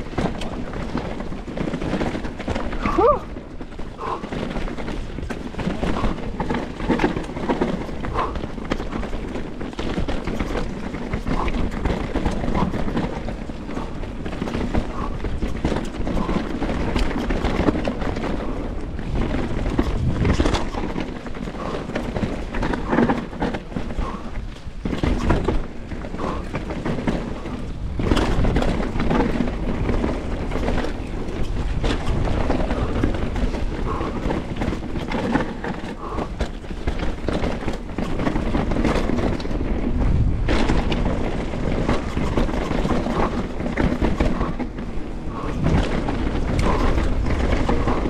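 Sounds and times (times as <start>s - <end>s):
bike rattling over rocky ground: 0.0s - 48.0s.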